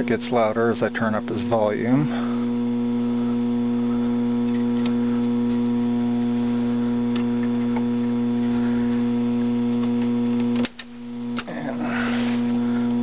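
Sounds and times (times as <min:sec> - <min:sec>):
loud electrical buzz from speaker: 0:00.0 - 0:13.0.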